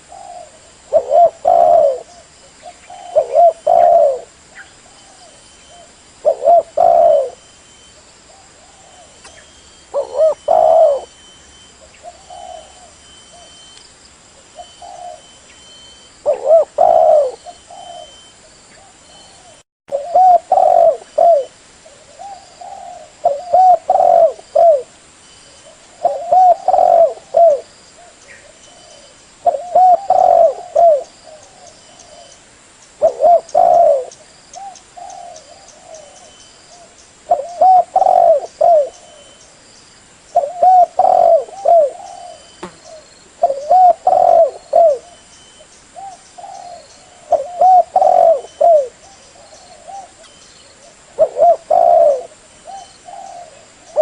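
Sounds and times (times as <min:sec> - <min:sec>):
dove cooing: 0:00.0 - 0:13.7, 0:14.5 - 0:24.9, 0:25.6 - 0:32.4, 0:33.0 - 0:39.4, 0:40.4 - 0:54.0.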